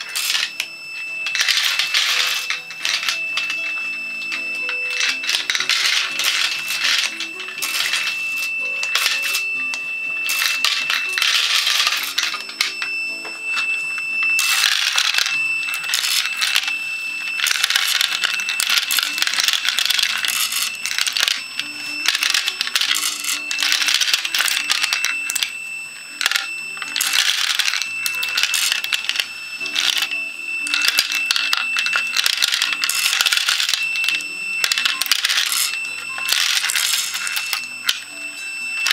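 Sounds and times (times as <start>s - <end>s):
bullets clattering in plastic bowl: 0.0s - 0.6s, 1.2s - 9.4s, 10.2s - 12.8s, 14.4s - 16.8s, 17.4s - 25.5s, 26.2s - 38.0s.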